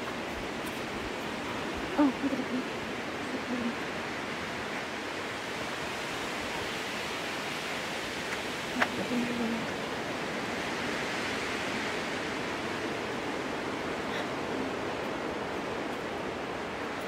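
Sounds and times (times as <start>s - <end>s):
storm wind through forest: 0.0s - 17.0s.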